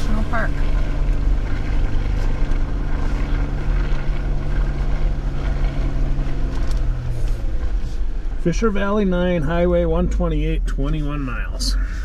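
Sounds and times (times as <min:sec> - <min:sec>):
car engine hum: 0:00.0 - 0:12.0
tyre and drivetrain rumble: 0:00.0 - 0:12.0.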